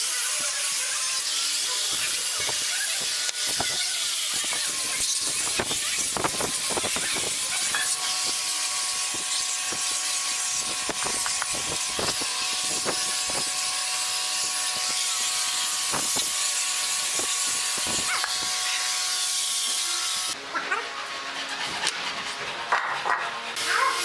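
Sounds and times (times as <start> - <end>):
angle grinder sanding wood: 0.0 - 24.0
sanding pad scraping boards: 0.0 - 24.0.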